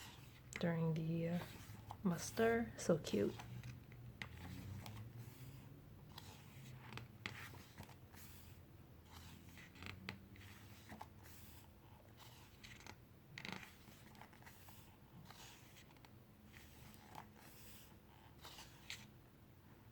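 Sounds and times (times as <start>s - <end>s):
paper rustling: 1.3s - 19.1s.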